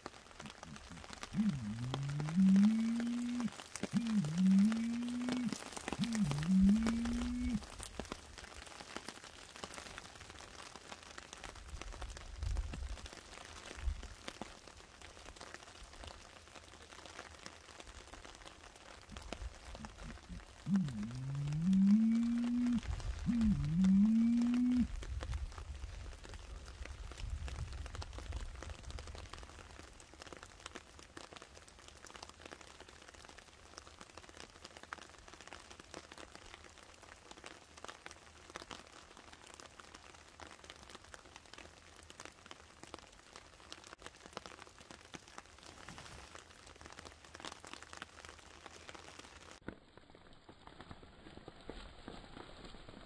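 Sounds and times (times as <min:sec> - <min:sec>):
light rain on leaf litter: 0:00.0 - 0:53.0.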